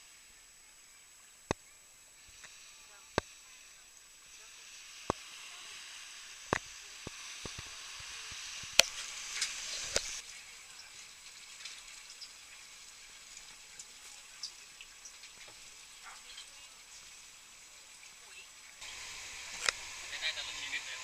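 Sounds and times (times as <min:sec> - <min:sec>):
fizzing hiss of water: 0:00.0 - 0:21.0.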